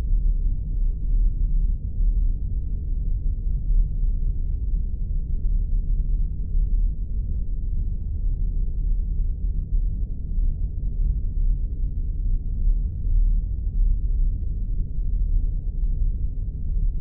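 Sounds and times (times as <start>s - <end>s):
deep muffled rumble: 0.0s - 17.0s.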